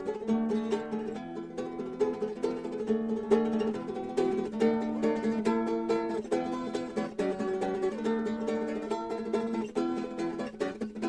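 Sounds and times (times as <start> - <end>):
plucked string tune: 0.0 - 11.0.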